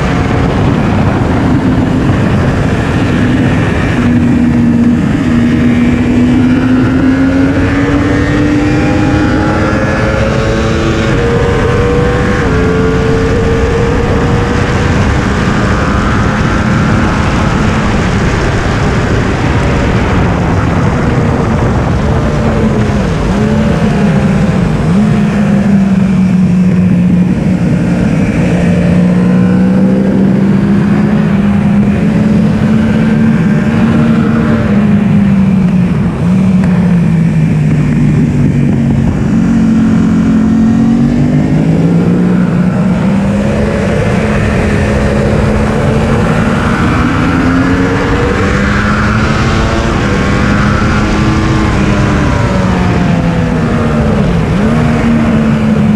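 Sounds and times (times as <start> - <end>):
sport motorcycle engine revving: 0.0 - 55.9.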